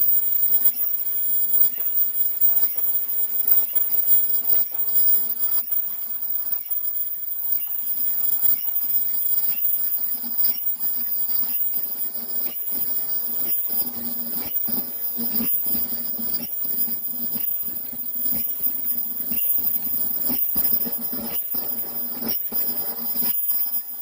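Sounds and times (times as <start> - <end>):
high-pitched machine hum and whine: 0.0 - 24.0.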